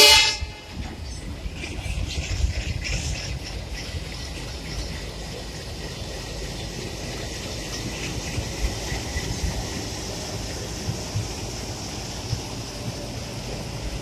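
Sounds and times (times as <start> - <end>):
diesel locomotive engine: 0.0 - 14.0
freight wagons rumbling on track: 0.0 - 14.0.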